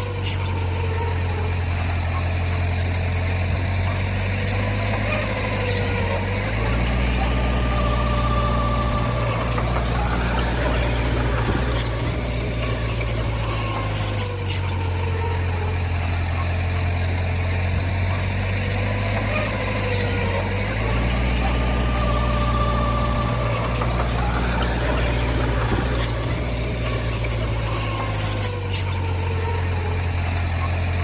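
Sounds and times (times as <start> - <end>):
heavy diesel machinery engine: 0.0 - 31.0.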